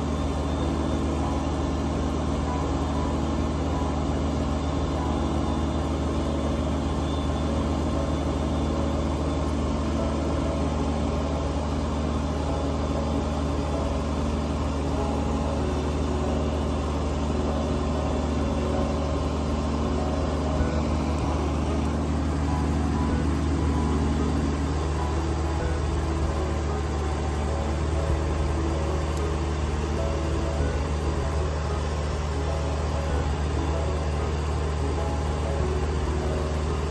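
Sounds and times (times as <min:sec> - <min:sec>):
diesel tractor engine under load: 0:00.0 - 0:36.9.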